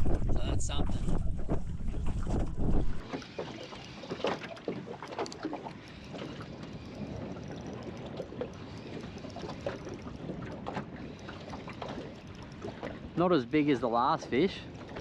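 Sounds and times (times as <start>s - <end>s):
low wind: 0.0s - 15.0s
water sloshing and splashing: 0.0s - 15.0s.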